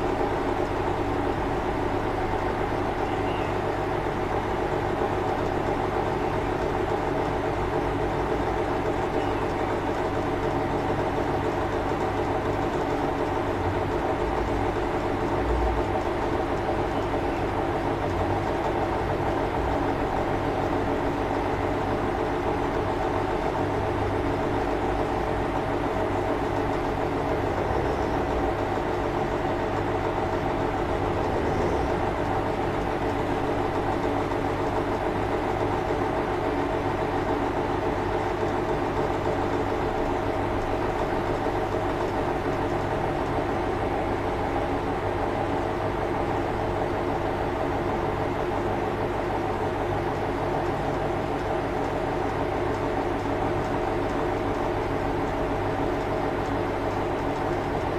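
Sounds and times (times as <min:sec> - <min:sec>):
steady mechanical drone: 0:00.0 - 0:57.9.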